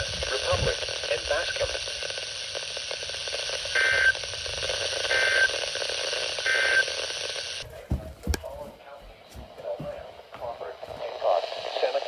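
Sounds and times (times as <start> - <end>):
radio static: 0.0 - 7.6, 8.3 - 12.0.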